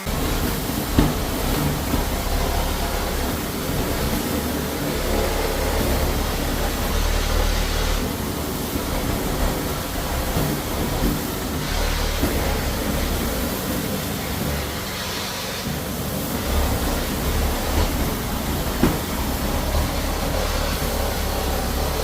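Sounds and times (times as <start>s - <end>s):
floor cleaner hiss and hum: 0.0s - 22.0s.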